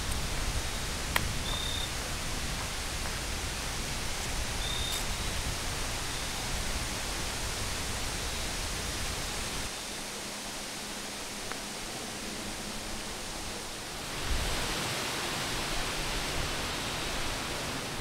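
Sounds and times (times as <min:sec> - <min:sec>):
wind rushing through trees: 0:00.0 - 0:18.0.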